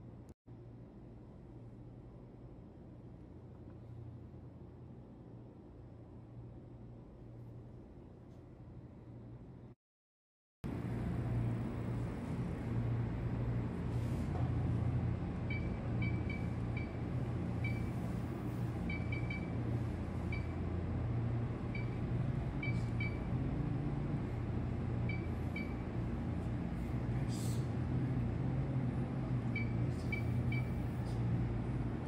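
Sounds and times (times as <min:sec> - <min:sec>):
steady low hum: 0:00.0 - 0:09.8, 0:10.6 - 0:32.0.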